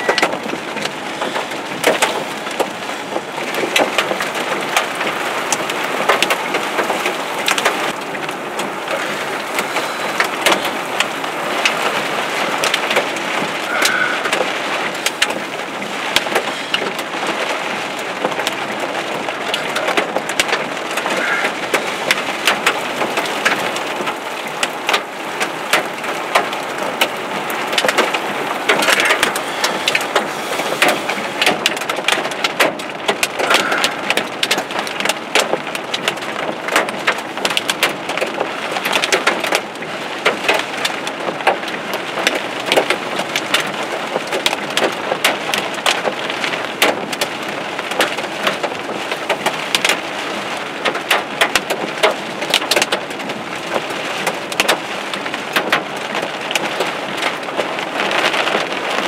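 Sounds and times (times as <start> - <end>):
heavy rain on car windshield: 0.0 - 59.0.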